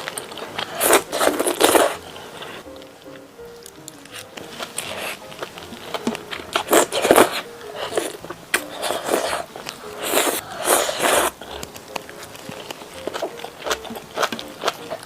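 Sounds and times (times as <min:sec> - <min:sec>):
crunching bites and chewing: 0:00.0 - 0:02.6, 0:03.6 - 0:15.0.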